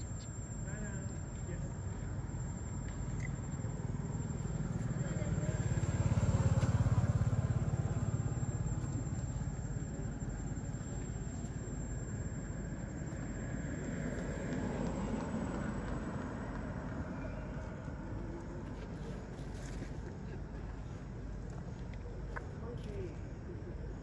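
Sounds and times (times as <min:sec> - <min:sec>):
low engine-like rumble: 0:00.0 - 0:24.0.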